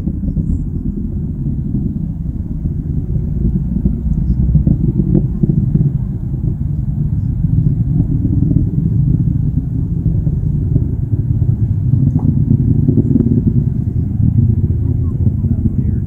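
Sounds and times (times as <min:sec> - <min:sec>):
distant rocket engine rumble: 0:00.0 - 0:16.0.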